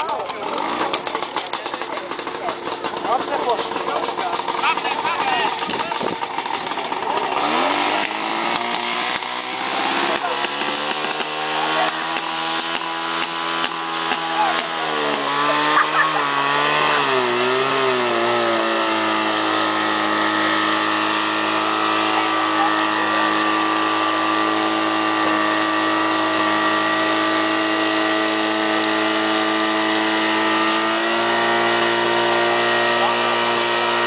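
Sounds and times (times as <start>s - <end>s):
fire pump engine running: 0.0s - 34.0s.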